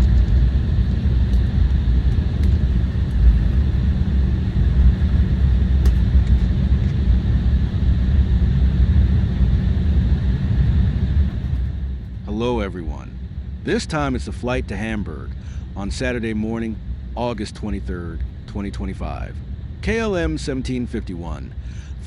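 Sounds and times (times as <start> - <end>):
jet cabin engine rumble: 0.0 - 22.0.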